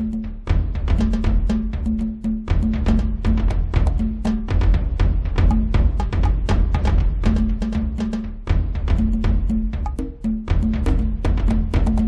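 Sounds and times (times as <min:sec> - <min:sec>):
drum beat: 0:00.0 - 0:12.0.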